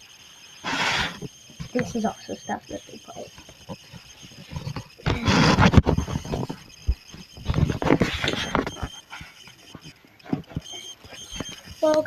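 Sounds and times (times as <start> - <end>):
short high squeaks: 0.0 - 12.0
kittens scrabbling and playing: 0.4 - 12.0.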